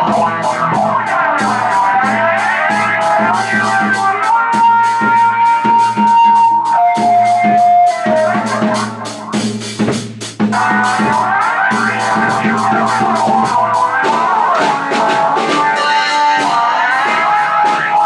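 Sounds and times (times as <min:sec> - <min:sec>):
electric guitar long high note: 0:00.0 - 0:09.7, 0:10.6 - 0:18.0
bass: 0:00.0 - 0:18.0
rock music: 0:00.0 - 0:18.0.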